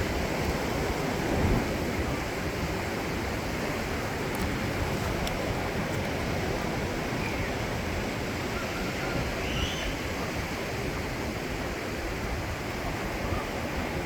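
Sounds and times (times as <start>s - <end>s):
steady outdoor rushing noise: 0.0s - 14.0s.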